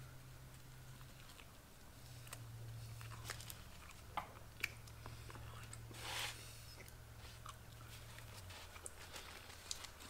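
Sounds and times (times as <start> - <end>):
steady low hum: 0.0 - 10.0
people chewing: 0.5 - 10.0.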